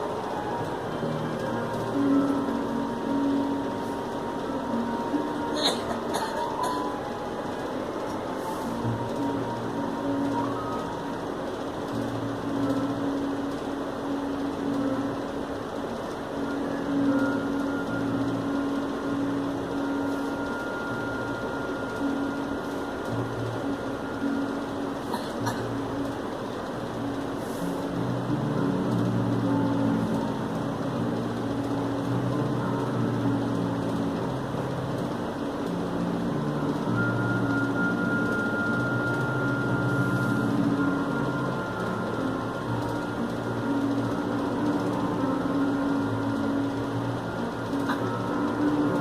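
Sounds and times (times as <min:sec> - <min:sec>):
mechanical hum with held tones: 0:00.0 - 0:49.0
thin high whine: 0:00.0 - 0:49.0.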